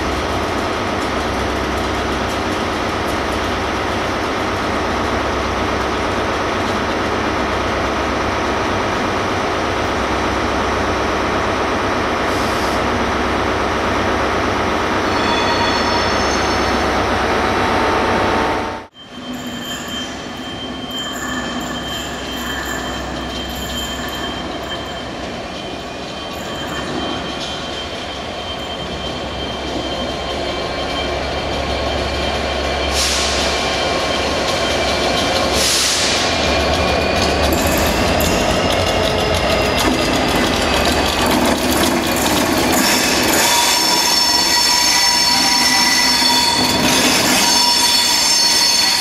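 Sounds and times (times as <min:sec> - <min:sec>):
train engine running: 0:00.0 - 0:49.0
train rumble: 0:00.0 - 0:49.0.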